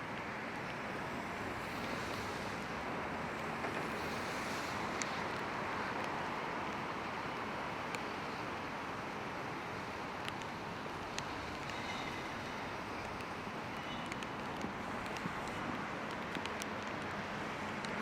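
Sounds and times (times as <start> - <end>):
rain hissing: 3.4 - 17.9.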